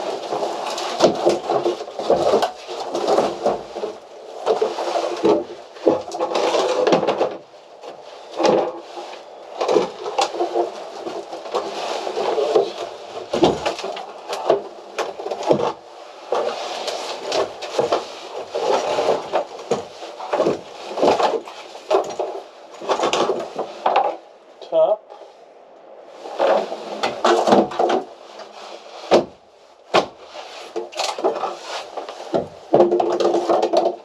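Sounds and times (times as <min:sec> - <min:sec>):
wood knocking and scraping: 0:00.0 - 0:24.3, 0:26.2 - 0:34.0.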